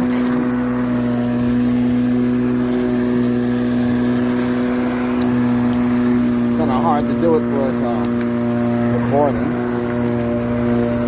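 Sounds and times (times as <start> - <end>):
electric lawn mower running: 0.0 - 11.0.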